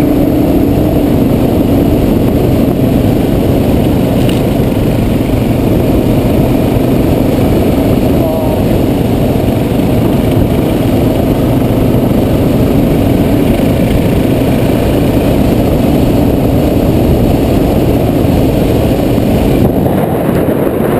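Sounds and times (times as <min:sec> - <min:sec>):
motorcycle riding on dirt road: 0:00.0 - 0:20.9.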